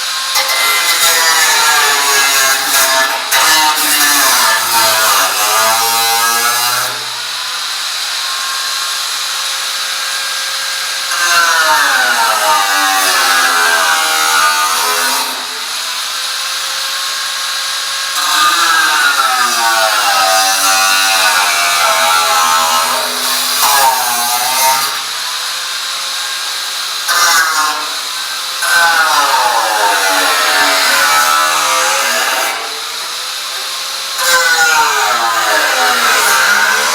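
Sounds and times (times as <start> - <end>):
electric power tool cutting: 0.0 - 36.9.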